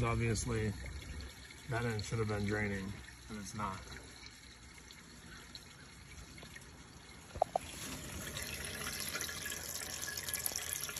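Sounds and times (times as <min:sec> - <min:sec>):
water trickling in gutter: 0:00.0 - 0:10.9.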